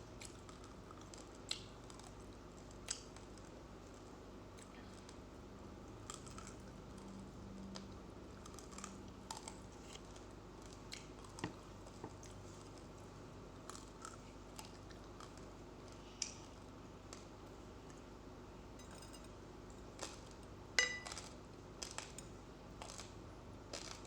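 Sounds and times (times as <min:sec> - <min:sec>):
chewing raw rice crunches: 0:00.0 - 0:18.3, 0:19.7 - 0:24.0.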